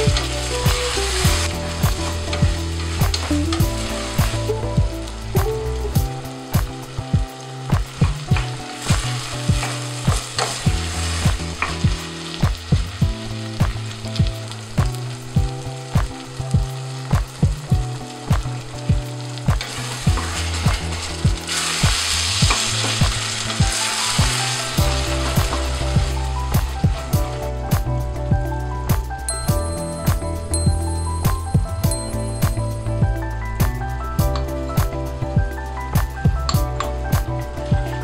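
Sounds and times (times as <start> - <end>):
background music with steady beat: 0.0 - 38.0
food sizzling in a frying pan: 0.0 - 38.0.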